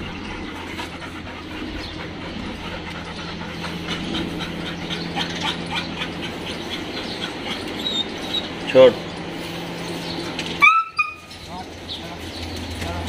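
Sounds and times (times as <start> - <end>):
dogs panting: 0.0 - 13.0
steady low hum: 0.0 - 13.0.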